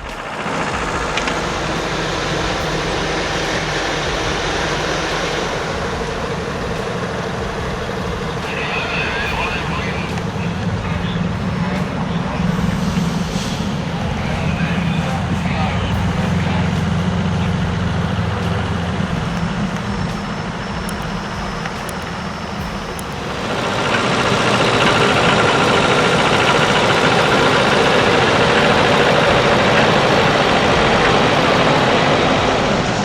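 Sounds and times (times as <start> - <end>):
loud mechanical noise: 0.0 - 33.0
truck engine humming: 0.0 - 33.0.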